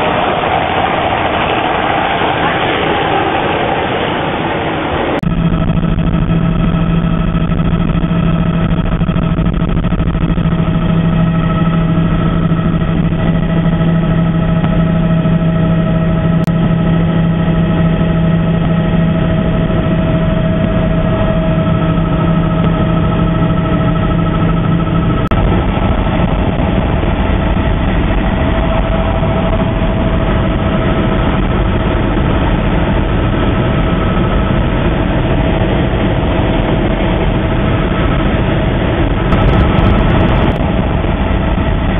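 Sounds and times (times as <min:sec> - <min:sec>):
engine running loudly: 0:00.0 - 0:41.9
low engine hum: 0:00.0 - 0:41.9.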